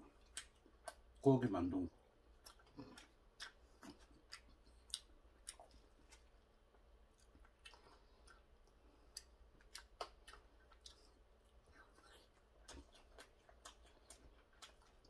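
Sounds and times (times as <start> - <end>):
faint chewing with mouth smacks: 0.0 - 15.0.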